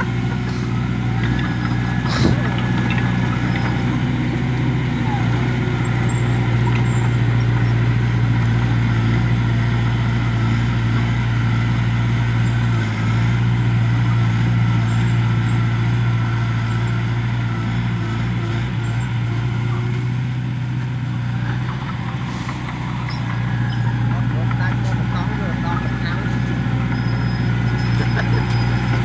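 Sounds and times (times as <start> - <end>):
bulldozer diesel engine drone: 0.0 - 29.0.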